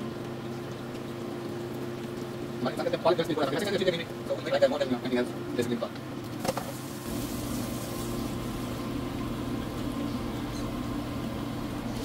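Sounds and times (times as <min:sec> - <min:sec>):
deep-frying sizzle and bubbling: 0:00.0 - 0:12.0.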